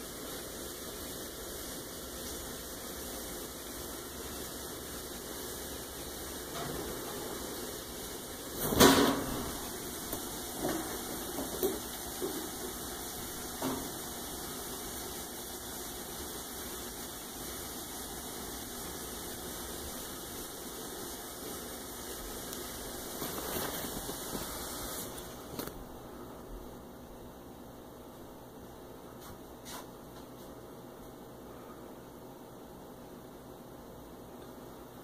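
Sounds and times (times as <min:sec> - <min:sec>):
aquarium filter hissing: 0:00.0 - 0:35.0.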